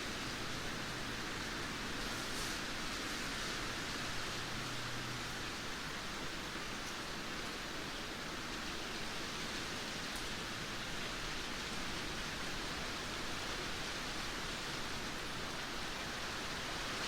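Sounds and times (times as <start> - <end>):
heavy rain pouring: 0.1 - 17.0.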